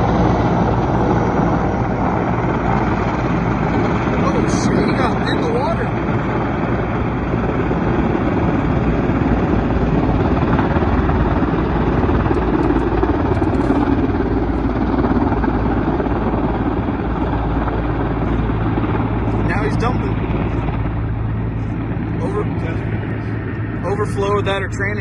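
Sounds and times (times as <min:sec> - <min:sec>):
helicopter rotor and engine rumble: 0:00.0 - 0:25.0.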